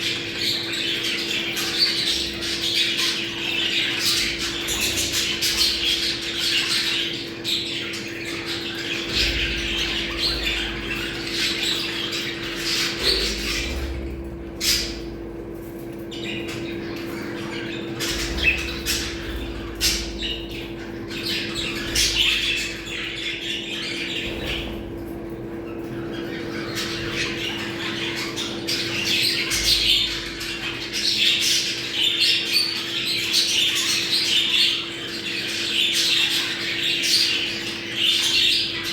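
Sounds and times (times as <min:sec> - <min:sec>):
budgerigars chattering and squawking: 0:00.0 - 0:38.9
steady low hum: 0:00.0 - 0:38.9.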